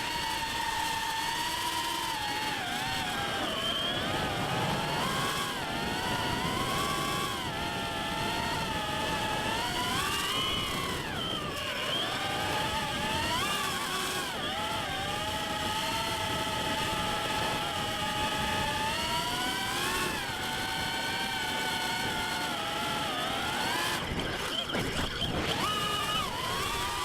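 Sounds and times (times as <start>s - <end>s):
drone propellers whining: 0.0s - 27.0s.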